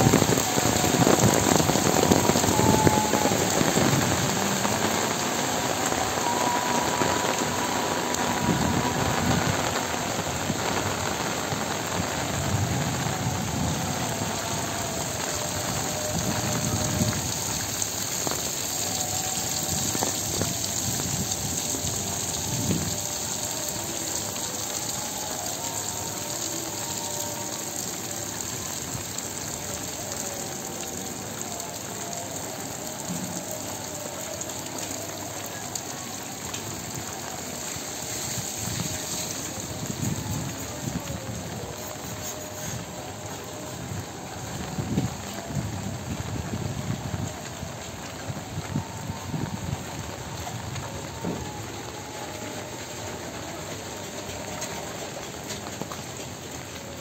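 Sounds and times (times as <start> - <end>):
heavy rain on a wet road: 0.0 - 57.0.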